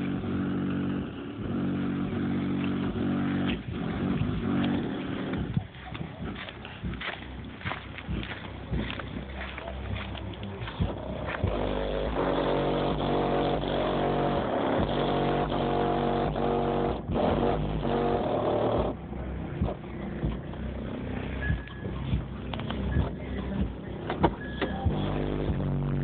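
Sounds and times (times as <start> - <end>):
deep subwoofer bass: 0.0 - 26.0
trunk rattling: 2.6 - 26.0.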